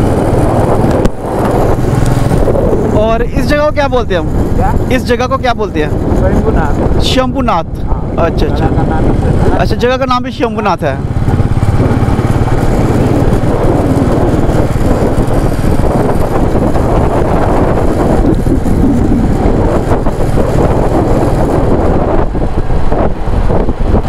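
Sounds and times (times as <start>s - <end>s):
motorcycle engine running: 0.0s - 7.2s, 7.8s - 24.0s
road noise: 0.0s - 24.0s
wind rushing across microphone: 0.0s - 24.0s.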